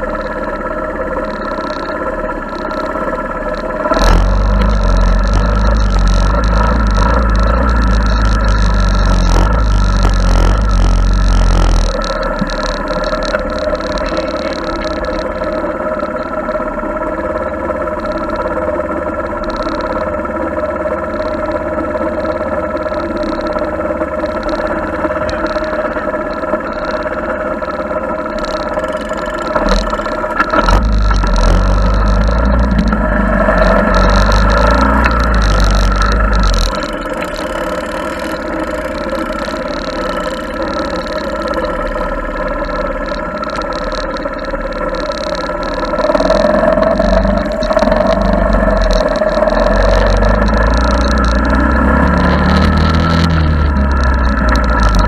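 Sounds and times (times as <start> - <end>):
heavy low rumble: 0.0 - 55.0
small engine running: 0.0 - 55.0.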